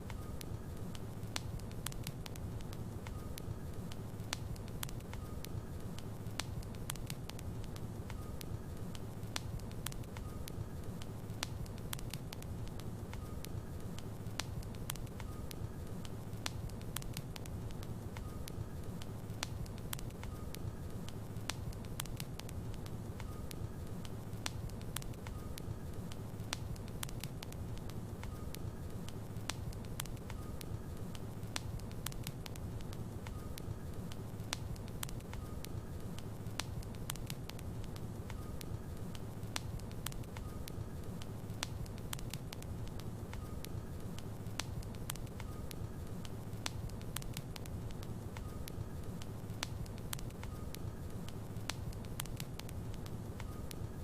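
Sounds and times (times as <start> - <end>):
fire crackles and pops: 0.0 - 54.0.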